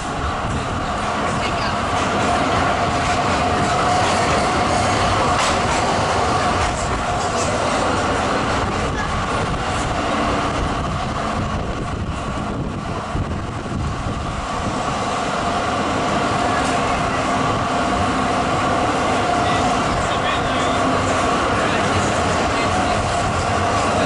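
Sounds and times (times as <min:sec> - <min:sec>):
tram drive humming: 0:00.0 - 0:24.0
tram wheels rumbling on rails: 0:00.0 - 0:24.0.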